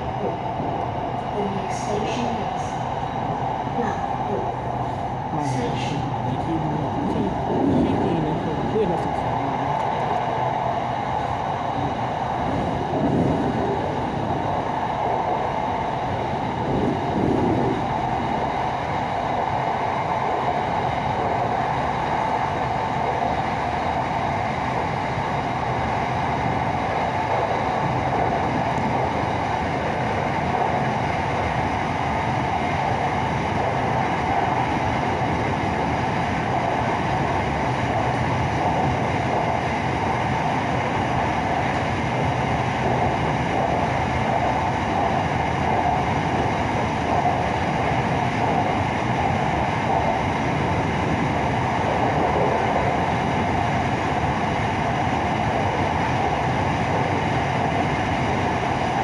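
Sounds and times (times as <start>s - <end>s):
train running noise from inside: 0.0s - 59.0s.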